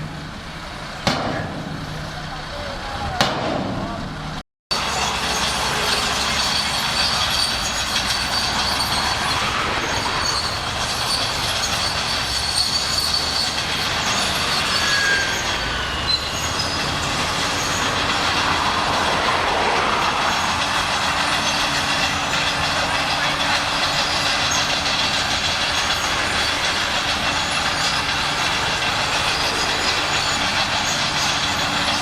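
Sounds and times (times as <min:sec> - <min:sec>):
bulldozer diesel engine: 0:00.0 - 0:32.0
steel tracks squealing and clanking: 0:00.0 - 0:32.0.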